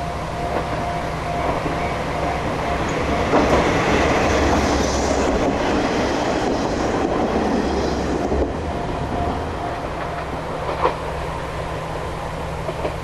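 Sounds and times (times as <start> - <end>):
diesel railcar rumbling on track: 0.0 - 13.0.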